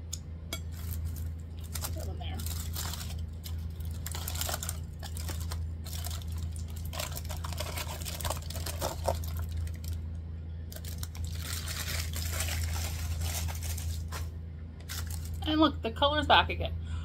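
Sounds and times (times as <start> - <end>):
steady low hum: 0.0 - 17.0
aluminium foil crinkling: 0.6 - 10.1, 10.7 - 15.6.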